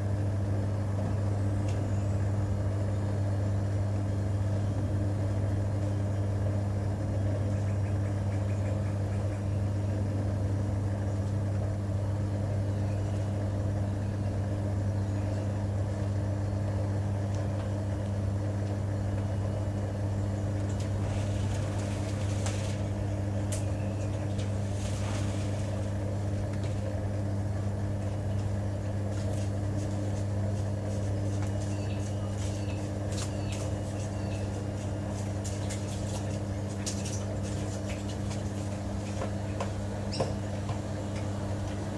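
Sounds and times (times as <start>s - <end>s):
washing machine humming: 0.0s - 41.9s.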